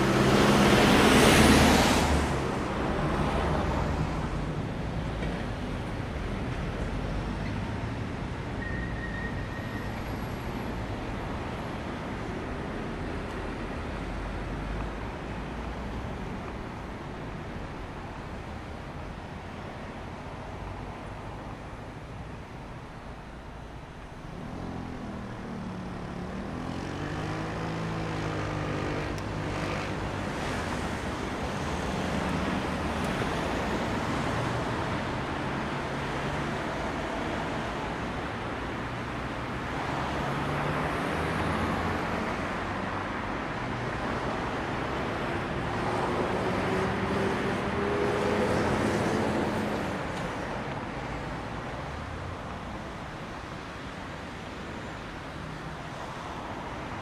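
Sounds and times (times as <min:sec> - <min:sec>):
passing cars: 0:00.0 - 0:57.0.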